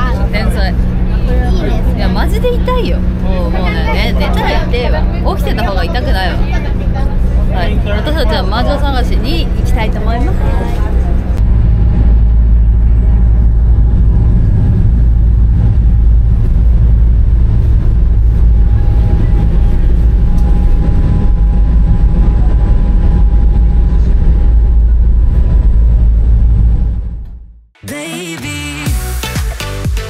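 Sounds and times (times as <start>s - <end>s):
ferry engines droning: 0.0s - 27.7s.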